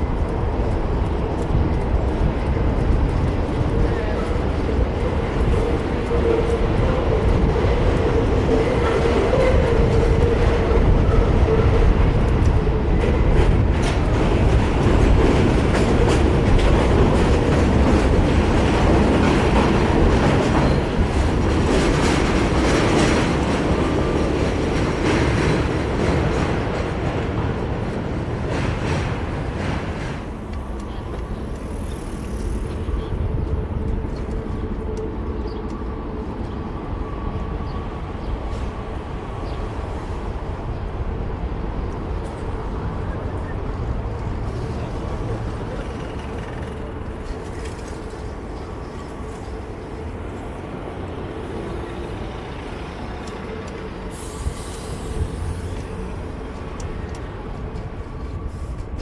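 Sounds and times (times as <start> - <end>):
bus driving: 0.0 - 59.0
city traffic: 0.0 - 59.0
road rumble: 0.0 - 59.0
wind rushing over microphone: 0.0 - 59.0.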